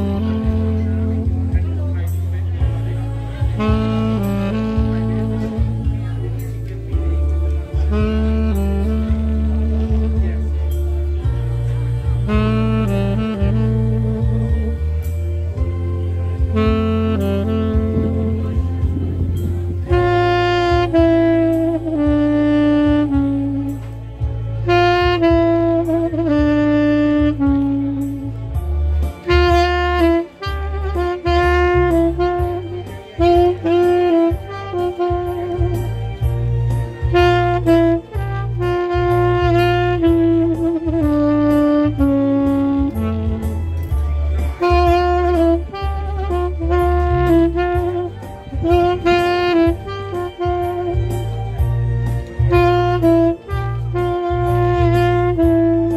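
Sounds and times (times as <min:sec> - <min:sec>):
low accompaniment: 0:00.0 - 0:55.9
saxophone melody: 0:00.0 - 0:55.9.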